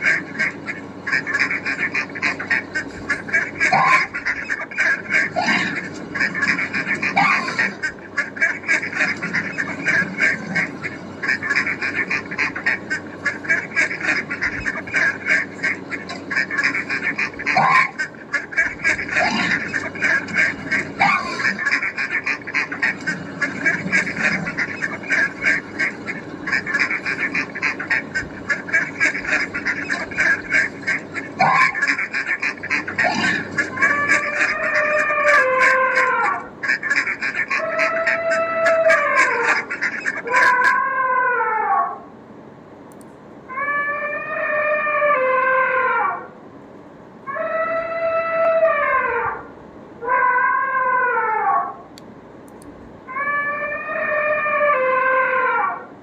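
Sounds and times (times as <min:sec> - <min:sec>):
bird calling in fast notes: 0:00.0 - 0:42.0, 0:47.2 - 0:52.0, 0:52.6 - 0:55.9.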